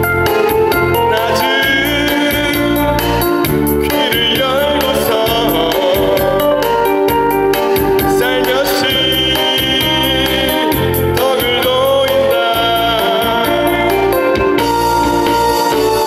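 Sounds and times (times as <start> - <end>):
amplified instrumental accompaniment: 0.0 - 16.0
man singing into a microphone: 0.8 - 7.0, 7.8 - 14.6.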